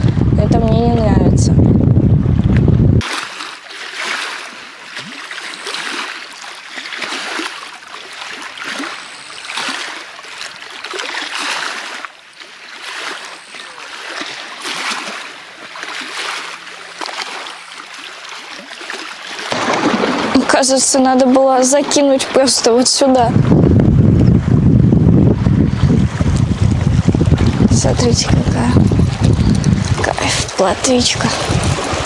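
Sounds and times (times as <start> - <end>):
small waves lapping against boat: 2.3 - 23.6, 25.4 - 32.0.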